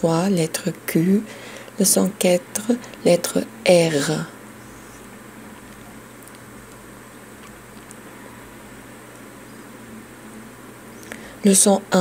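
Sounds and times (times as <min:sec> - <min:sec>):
faint steady hiss: 0:00.0 - 0:12.0
low electrical hum: 0:00.0 - 0:12.0.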